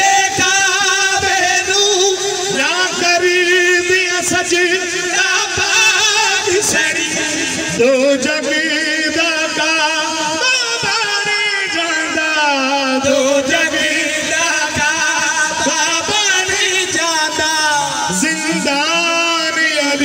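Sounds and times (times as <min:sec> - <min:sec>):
man singing a lament: 0:00.0 - 0:20.0.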